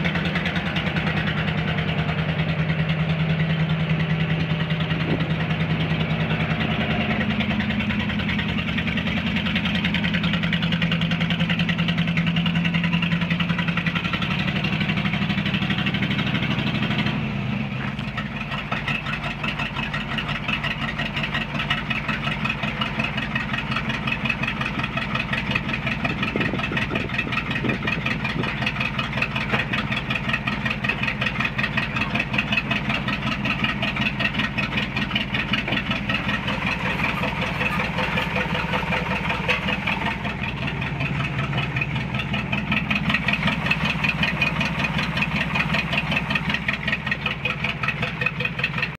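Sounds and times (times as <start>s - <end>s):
truck engine running: 0.0s - 48.9s.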